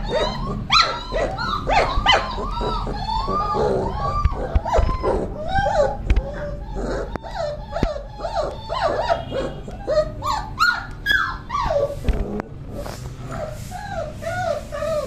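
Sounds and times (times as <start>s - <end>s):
puppies yelping and whining: 0.0s - 15.0s.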